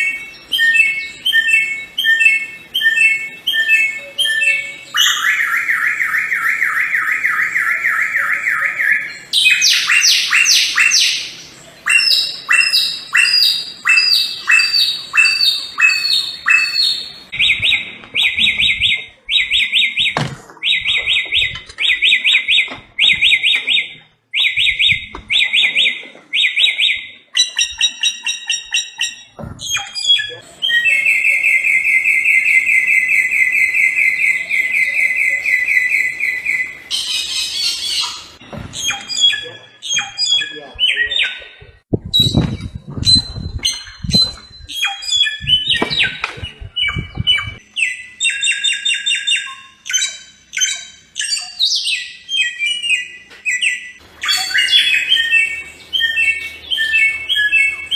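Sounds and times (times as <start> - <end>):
songbird whistling and trilling: 0.0 - 57.9.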